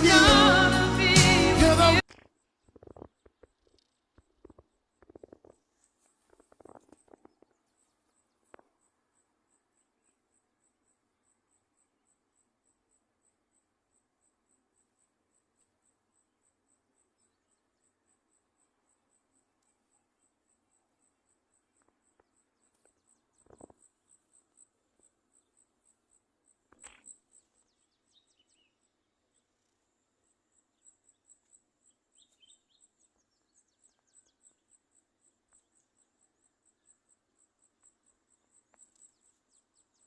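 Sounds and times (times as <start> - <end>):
insect chirping: 2.2 - 40.0
bird chirps: 2.4 - 13.5, 14.3 - 40.0.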